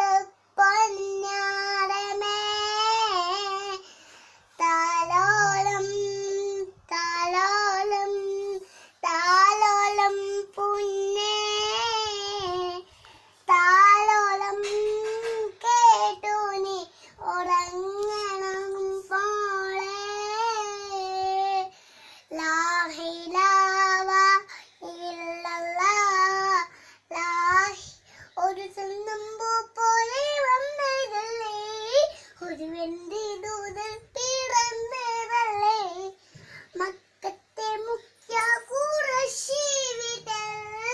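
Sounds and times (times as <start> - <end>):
child singing a lullaby: 0.0 - 40.9.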